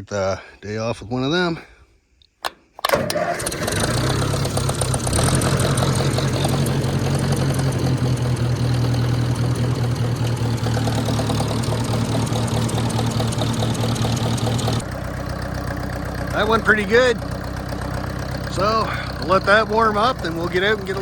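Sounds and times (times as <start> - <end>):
tractor engine idling: 2.4 - 21.0.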